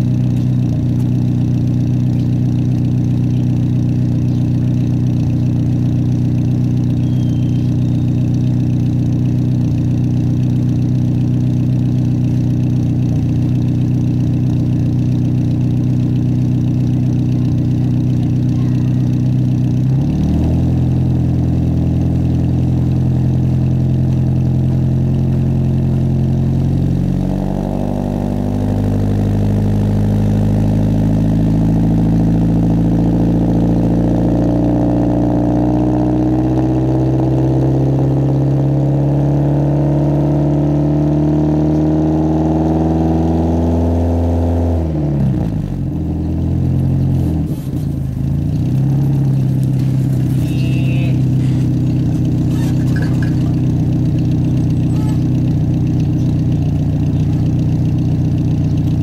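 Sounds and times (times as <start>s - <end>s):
car engine exhaust revving: 0.0s - 59.0s.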